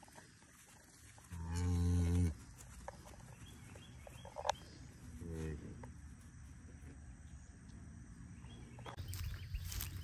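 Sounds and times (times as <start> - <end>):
faint insect chirping: 0.0 - 10.0.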